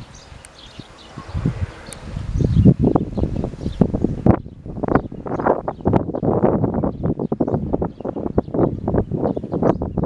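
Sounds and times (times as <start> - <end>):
birds chirping: 0.0 - 10.0
wind rumble on microphone: 0.0 - 10.0.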